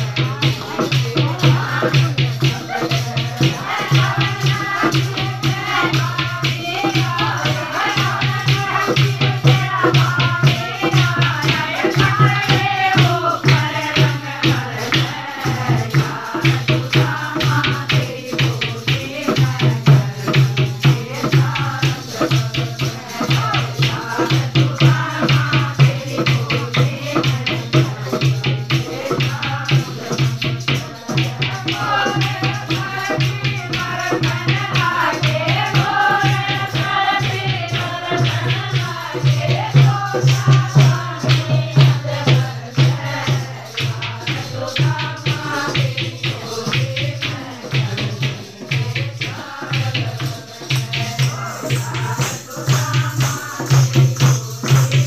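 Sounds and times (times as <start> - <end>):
rattling percussion: 0.0 - 55.0
women singing: 0.0 - 55.0.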